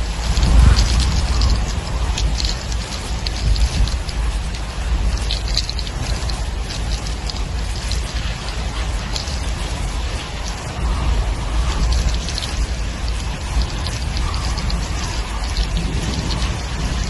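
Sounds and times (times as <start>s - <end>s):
heavy rain falling: 0.0s - 17.0s
raindrops tapping close by: 0.0s - 17.0s
wind buffeting microphone: 0.0s - 17.0s.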